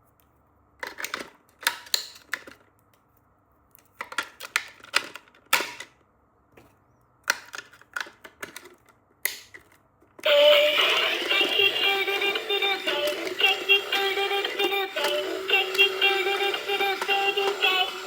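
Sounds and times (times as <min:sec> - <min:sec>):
plastic toy clicking and rustling: 0:00.8 - 0:02.7, 0:03.8 - 0:06.0, 0:07.2 - 0:18.0.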